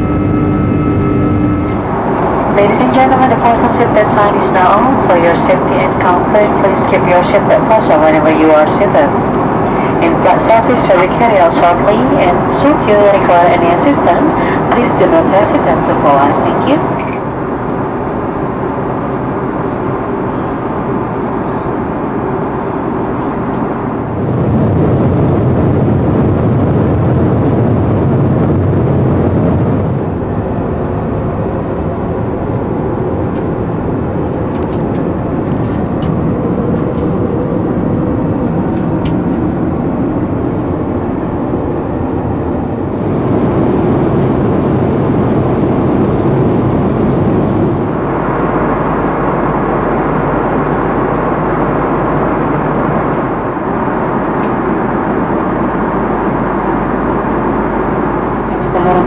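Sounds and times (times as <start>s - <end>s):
airliner cabin roar: 0.0s - 59.0s.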